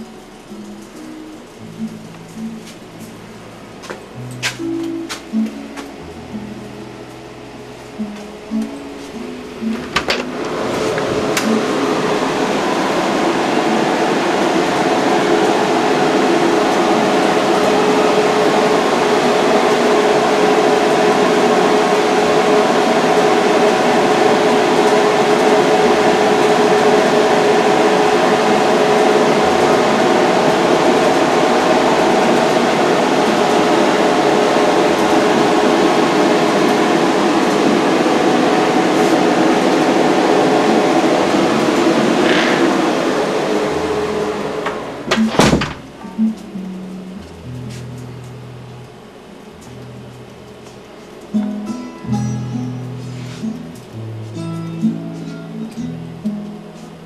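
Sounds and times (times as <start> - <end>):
steady humming tones: 0.0 - 57.0
ventilation whir: 0.0 - 57.0.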